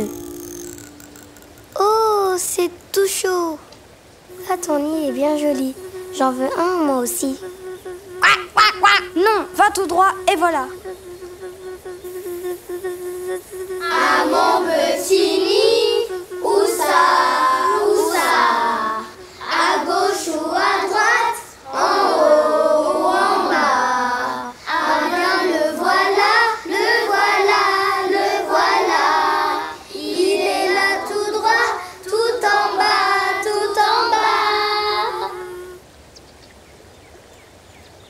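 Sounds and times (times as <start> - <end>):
children singing: 0.0 - 1.8, 4.3 - 11.2, 13.2 - 35.8.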